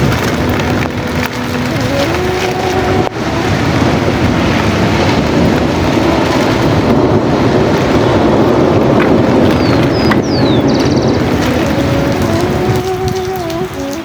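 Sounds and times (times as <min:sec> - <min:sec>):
sea surf washing onto shore: 0:00.0 - 0:14.0
wind rumbling on microphone: 0:00.0 - 0:14.0.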